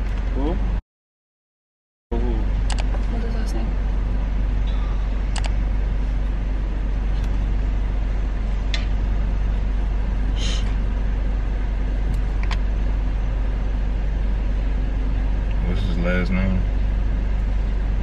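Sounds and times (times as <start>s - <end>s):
car engine and road rumble: 0.0s - 0.8s, 2.1s - 18.0s.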